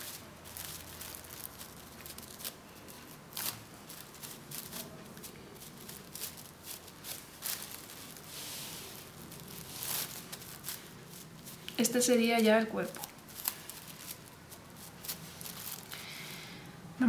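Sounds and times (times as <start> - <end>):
cling film and polystyrene rustling: 0.0 - 16.6.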